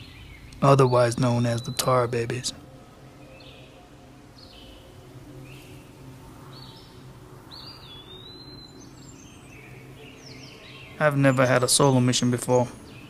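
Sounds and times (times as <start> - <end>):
birds chirping: 0.0 - 13.0
faint low hum: 0.0 - 13.0.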